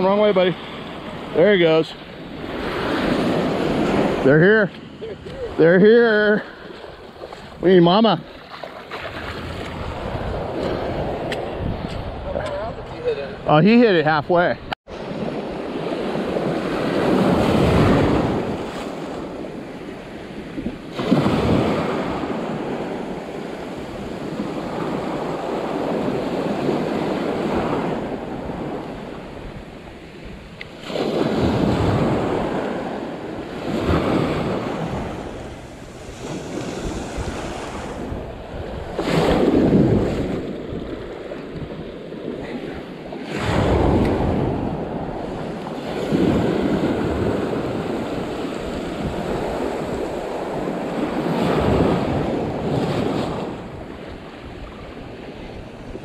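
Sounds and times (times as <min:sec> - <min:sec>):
ocean surf breaking: 0:00.0 - 0:56.0
wind noise on microphone: 0:08.9 - 0:13.5, 0:14.9 - 0:56.0.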